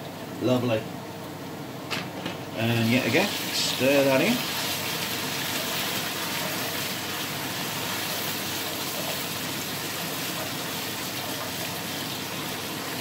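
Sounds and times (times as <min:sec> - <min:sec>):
vegetables sizzling in hot oil: 0:02.6 - 0:13.0.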